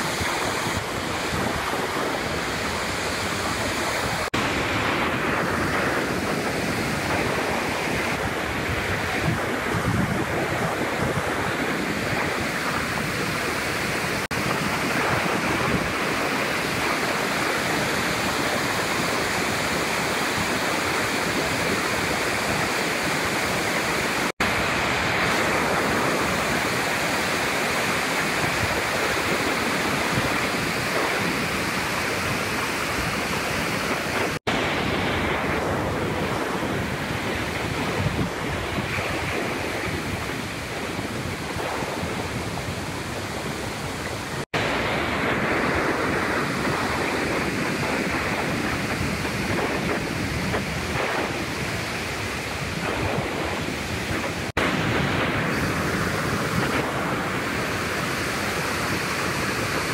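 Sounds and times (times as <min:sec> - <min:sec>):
water rushing over waterfall: 0:00.0 - 0:59.9.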